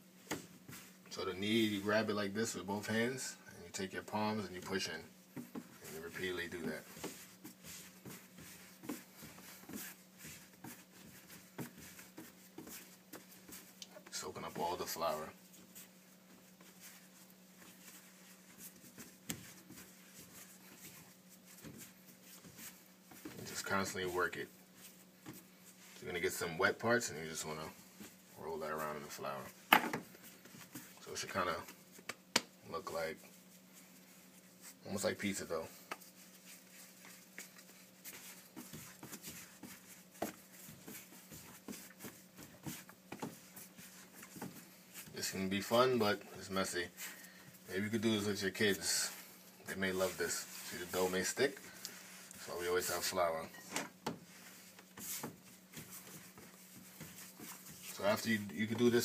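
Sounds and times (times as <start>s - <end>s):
dough being kneaded by hand: 0.0s - 59.0s
steady low hum: 0.0s - 59.0s.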